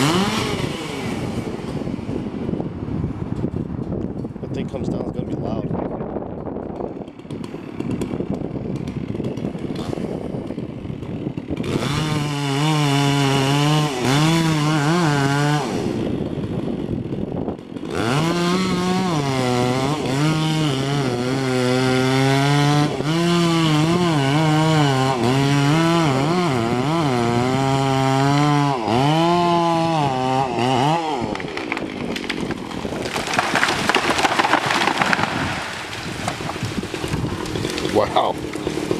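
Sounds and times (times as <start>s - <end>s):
chainsaw cutting wood: 0.0s - 4.3s, 6.4s - 38.9s.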